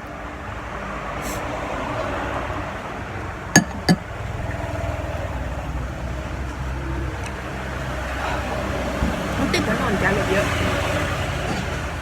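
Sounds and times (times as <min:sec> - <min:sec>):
road traffic passing: 0:00.0 - 0:12.0
vehicle engine rumble: 0:01.9 - 0:12.0.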